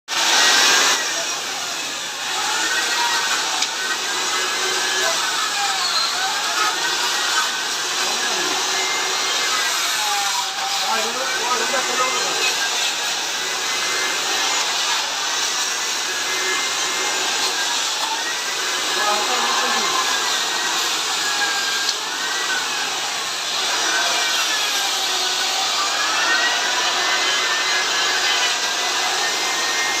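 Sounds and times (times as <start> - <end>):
tree-cutting machine whining: 0.1 - 30.0.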